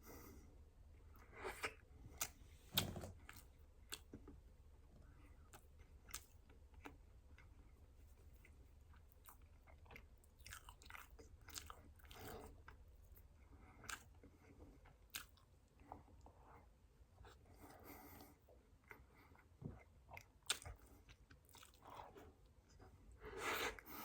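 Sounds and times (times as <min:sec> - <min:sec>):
chewing cake: 0:03.2 - 0:04.4, 0:05.0 - 0:24.0.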